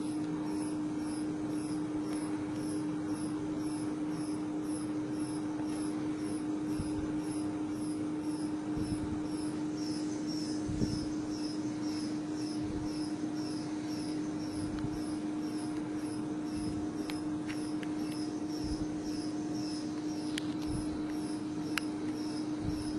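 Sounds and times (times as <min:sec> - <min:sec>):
testing machine electric hum: 0:00.0 - 0:22.9.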